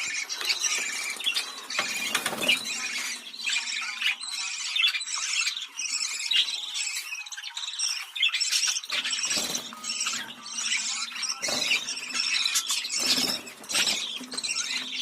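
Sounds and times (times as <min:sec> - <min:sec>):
budgerigars chattering and warbling: 0:00.0 - 0:15.0.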